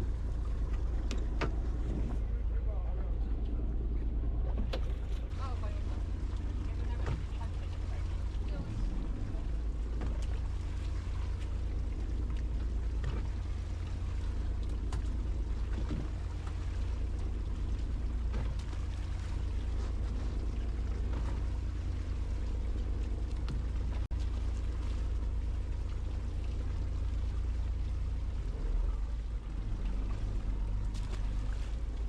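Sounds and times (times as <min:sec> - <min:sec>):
boat engine droning: 0:00.0 - 0:32.0
wash of noise: 0:00.0 - 0:32.0.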